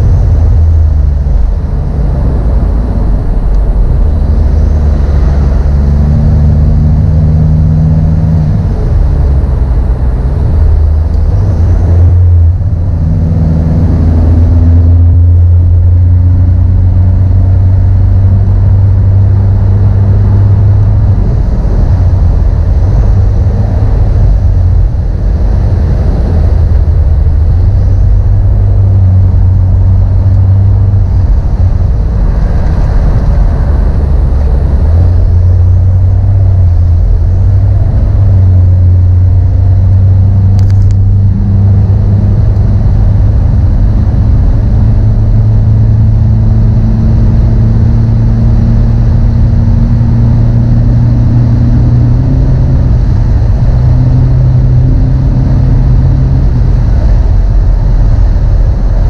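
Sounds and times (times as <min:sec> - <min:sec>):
car engine droning: 0:00.0 - 0:59.0
road noise: 0:00.0 - 0:59.0.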